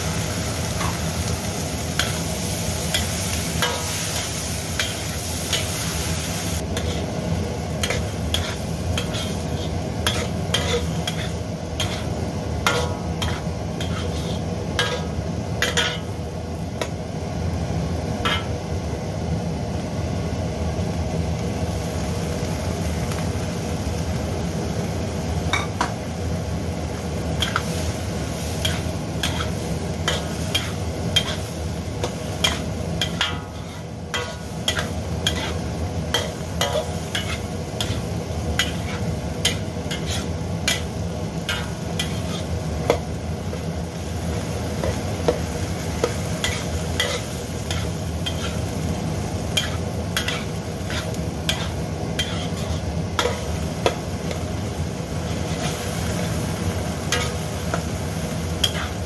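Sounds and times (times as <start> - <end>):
metal spatula scraping a wok: 0.0 - 16.2, 18.2 - 18.6, 27.3 - 54.6, 55.2 - 59.0
food sizzling: 0.0 - 59.0.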